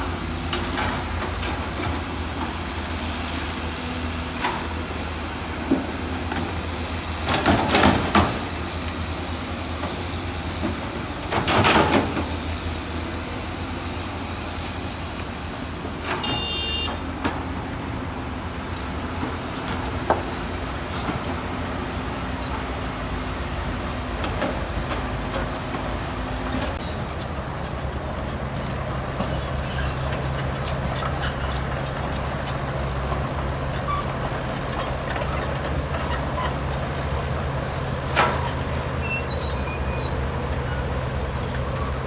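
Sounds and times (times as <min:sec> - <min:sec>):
heavy diesel machinery running: 0:00.0 - 0:42.0.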